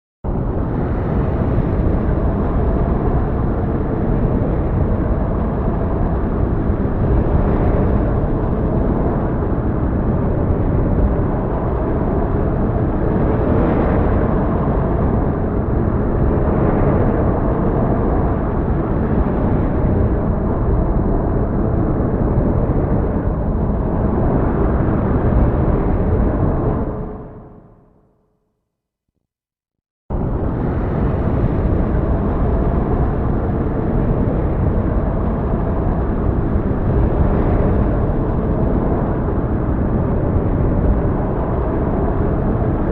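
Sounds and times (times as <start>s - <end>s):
heavy storm roar: 0.3s - 27.8s, 30.1s - 42.9s.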